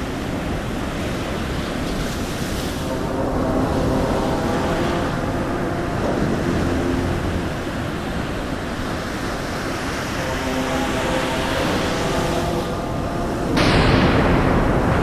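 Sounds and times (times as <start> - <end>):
steady rushing wash: 0.0 - 15.0.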